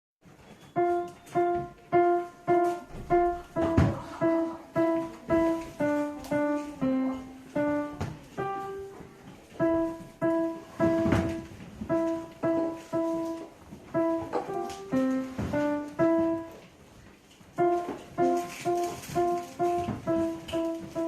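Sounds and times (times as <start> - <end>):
child playing piano melody: 0.6 - 16.8, 17.5 - 21.0.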